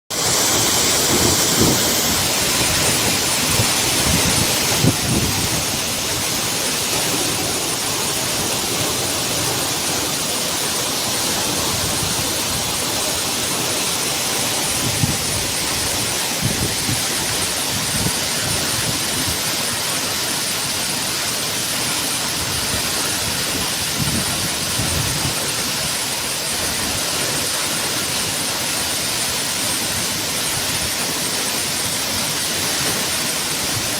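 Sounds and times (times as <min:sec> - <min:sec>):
torrential rain pouring: 0:00.1 - 0:33.9.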